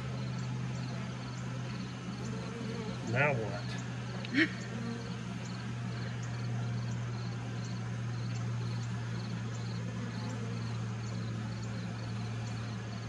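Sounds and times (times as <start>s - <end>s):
honeybees humming: 0.0s - 13.0s
insect chirping: 0.0s - 13.0s.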